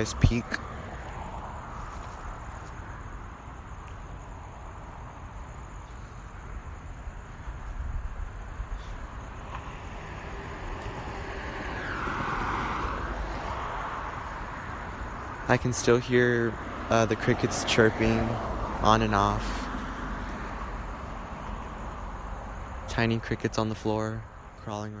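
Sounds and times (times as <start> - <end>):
car passing: 0.0 - 22.9
traffic rumble: 0.0 - 25.0.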